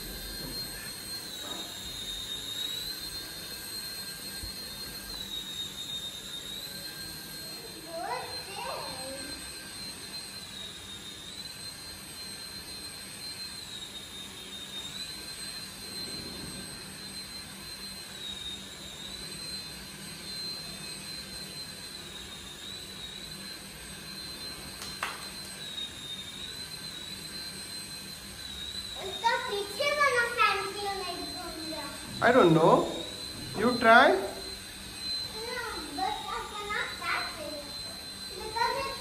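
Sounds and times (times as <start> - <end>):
toy helicopter motor whining: 0.0 - 39.0.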